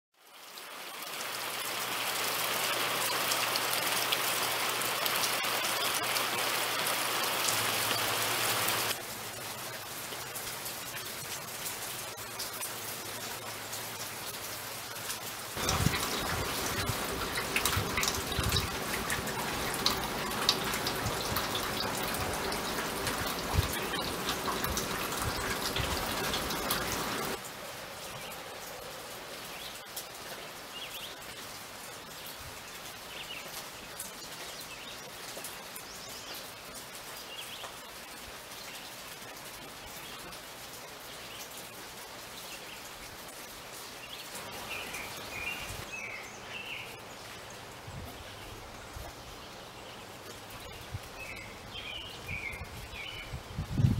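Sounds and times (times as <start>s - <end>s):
close drips and splashes: 0.2s - 53.9s
steady rain falling: 0.2s - 53.9s.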